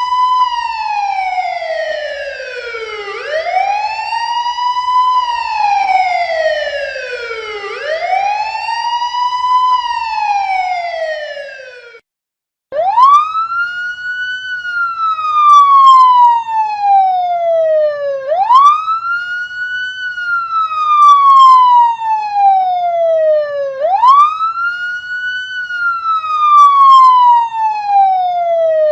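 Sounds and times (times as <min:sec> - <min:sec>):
emergency vehicle sirens wailing: 0:00.0 - 0:12.0, 0:12.7 - 0:28.9.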